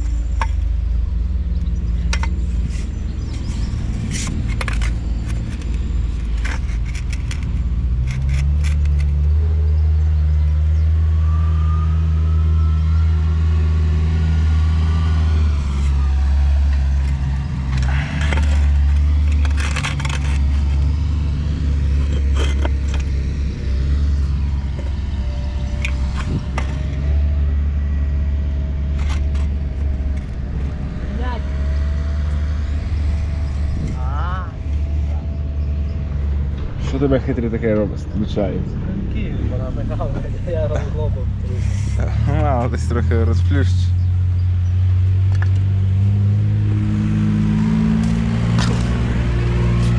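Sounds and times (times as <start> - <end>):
large engine running: 0.0 - 49.9.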